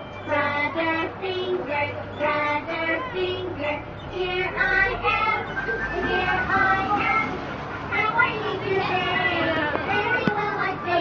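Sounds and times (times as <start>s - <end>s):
children's song through speaker: 0.0s - 11.0s.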